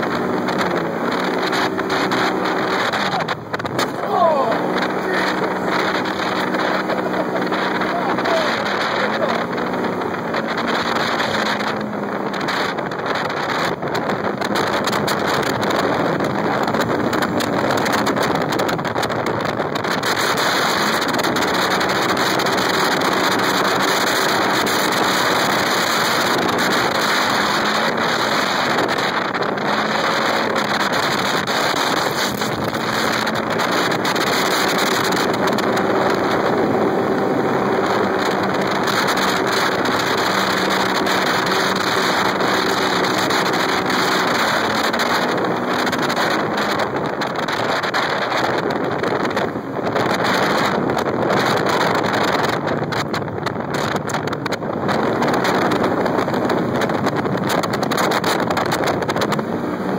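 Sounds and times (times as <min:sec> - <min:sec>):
engine revving under load: 0:00.0 - 0:59.9
wind noise on microphone: 0:00.0 - 0:59.9.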